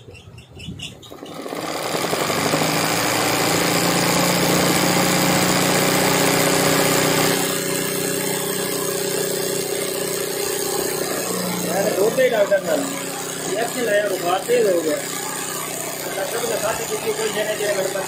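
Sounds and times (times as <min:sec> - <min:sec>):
sewing machine running fast: 0:01.1 - 0:18.0.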